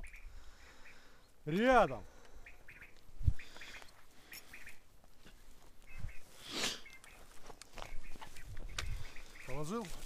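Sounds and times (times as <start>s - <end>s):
quail calling: 0.0s - 1.3s, 2.1s - 4.9s, 5.8s - 10.0s.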